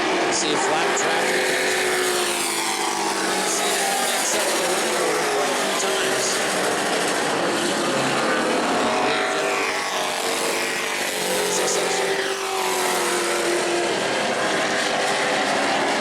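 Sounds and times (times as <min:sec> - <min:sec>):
racing truck engines passing by: 0:00.0 - 0:16.0.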